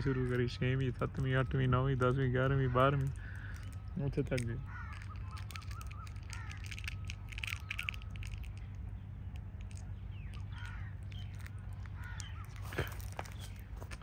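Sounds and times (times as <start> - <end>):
crows cawing: 0.0 - 8.6, 9.7 - 13.9
birds calling: 0.0 - 14.0
steady low hum: 0.0 - 14.0.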